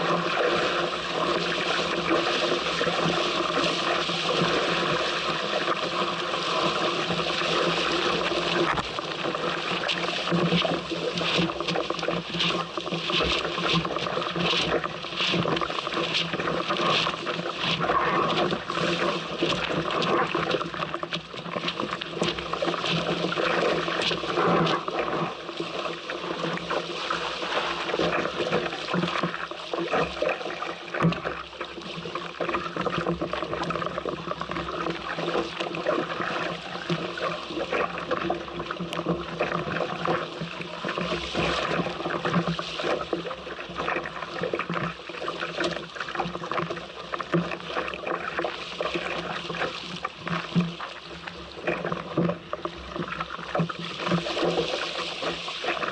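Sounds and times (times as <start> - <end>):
water rushing against boat hull: 0.0 - 55.9.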